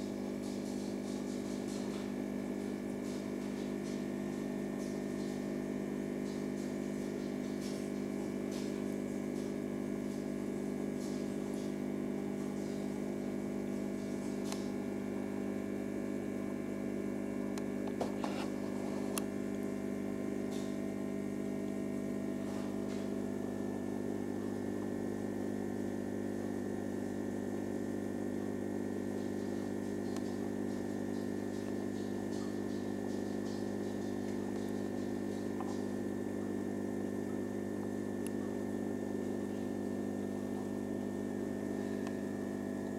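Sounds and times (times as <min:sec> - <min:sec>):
electrical hum of aquarium equipment: 0:00.0 - 0:42.9.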